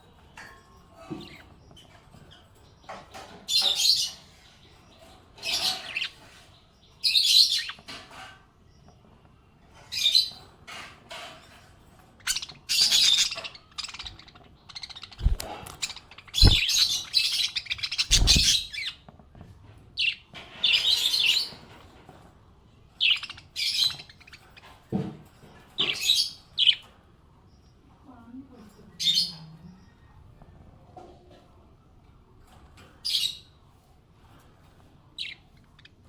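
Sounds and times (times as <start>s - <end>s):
parrots chirping and chattering: 0.0s - 28.0s, 28.7s - 30.1s, 32.4s - 36.0s.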